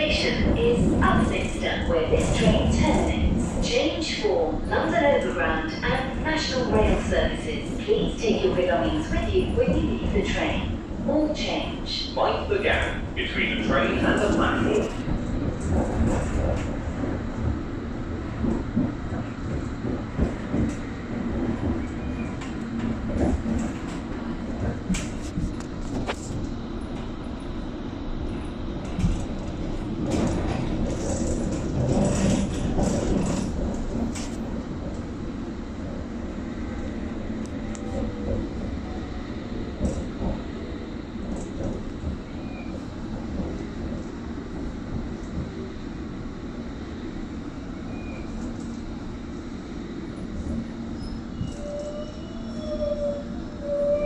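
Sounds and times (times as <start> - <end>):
underground train rumbling: 0.0 - 54.0.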